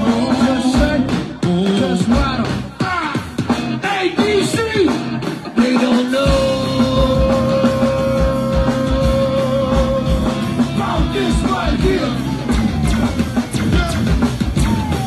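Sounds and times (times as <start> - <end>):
drum kit: 0.0 - 15.0
live funk band playing: 0.0 - 15.0.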